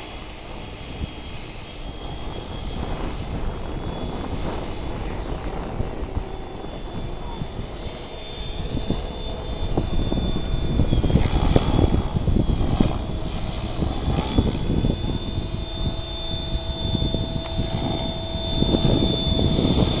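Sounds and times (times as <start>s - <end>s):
electric motor and gears whining: 0.0s - 20.0s
rotor blades whooshing: 0.0s - 20.0s.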